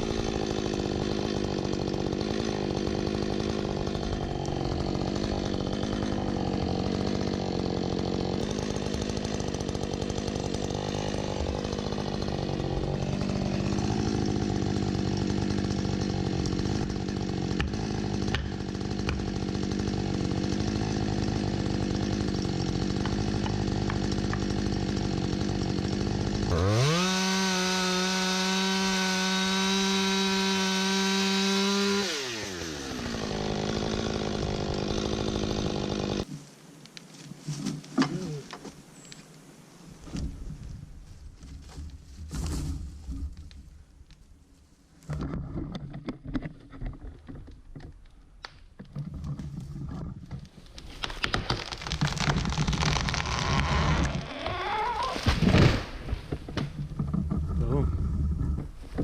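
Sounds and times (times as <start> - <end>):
chainsaw cutting wood: 0.0 - 36.4, 41.5 - 44.2, 45.0 - 59.0.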